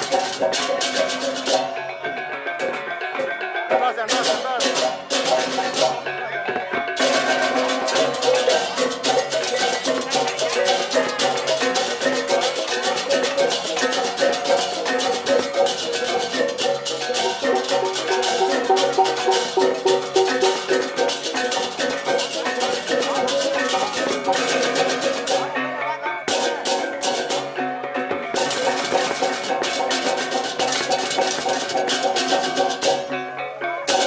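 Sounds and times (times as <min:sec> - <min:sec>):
gamelan music: 0:00.0 - 0:34.0.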